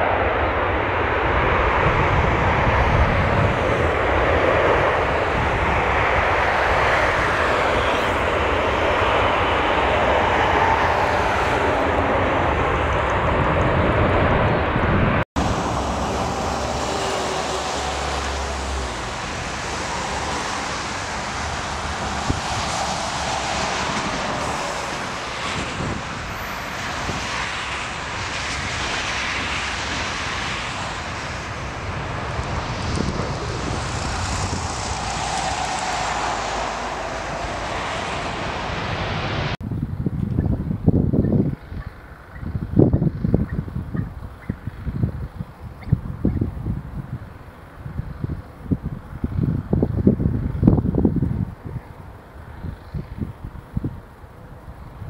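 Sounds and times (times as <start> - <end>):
faint jet engine whine: 0.0 - 55.0
loud jet engine roar: 0.0 - 55.0.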